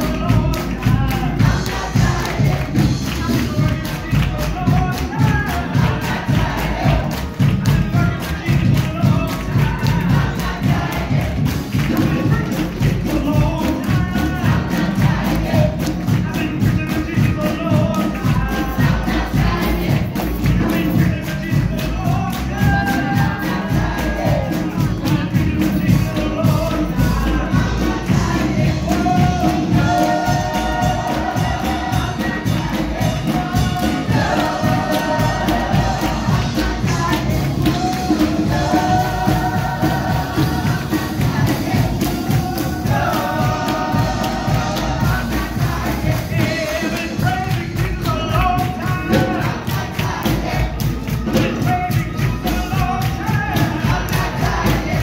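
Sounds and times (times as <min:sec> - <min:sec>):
choir singing a hymn: 0:00.0 - 0:04.3, 0:05.0 - 0:16.7, 0:17.9 - 0:55.0
hand-clapping in time: 0:00.0 - 0:55.0
steady beat: 0:00.0 - 0:55.0.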